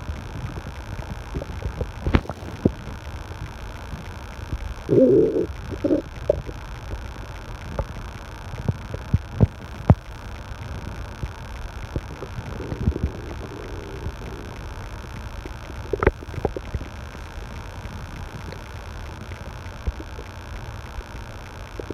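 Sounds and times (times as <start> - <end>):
air conditioner humming: 0.0 - 21.9
stomach gurgling: 0.0 - 21.9.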